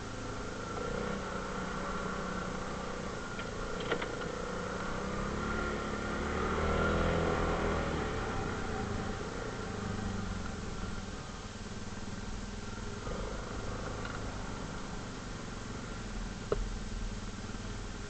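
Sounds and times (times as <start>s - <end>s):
atv engine revving: 0.0s - 16.6s.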